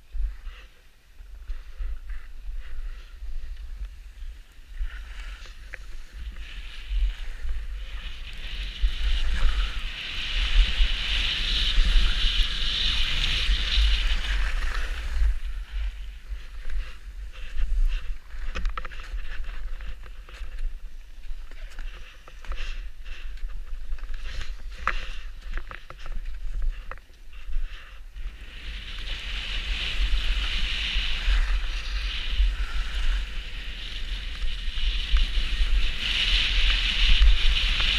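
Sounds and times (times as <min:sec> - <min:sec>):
wind on microphone: 0:00.0 - 0:37.9
sliding over snow hiss: 0:01.5 - 0:37.9.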